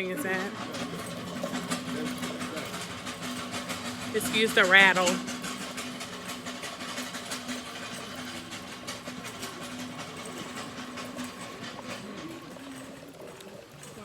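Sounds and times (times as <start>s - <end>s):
continuous rattling clicks: 0.0s - 14.0s.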